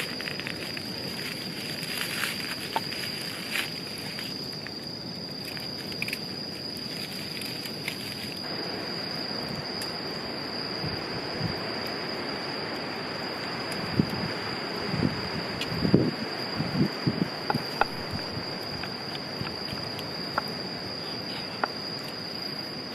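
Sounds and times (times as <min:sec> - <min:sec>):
high-pitched insect trill: 0:00.0 - 0:22.9.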